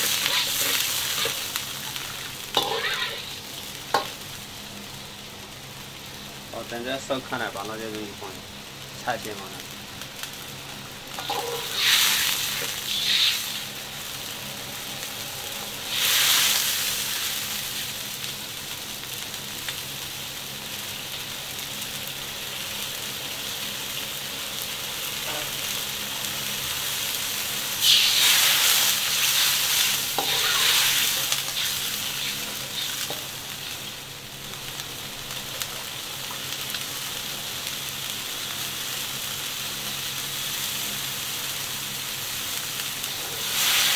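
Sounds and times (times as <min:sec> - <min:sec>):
broth sizzling and bubbling in a wok: 0:00.0 - 0:43.9.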